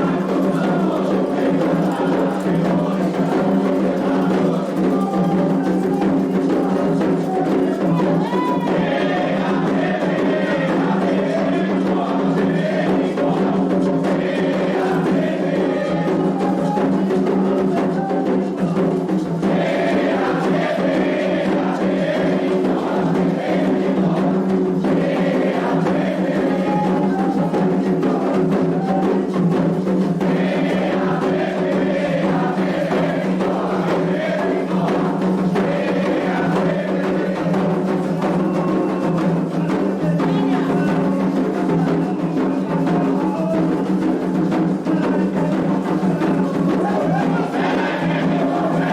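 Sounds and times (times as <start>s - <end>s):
group singing chants: 0.0s - 48.9s
hand drums and percussion: 0.0s - 48.9s.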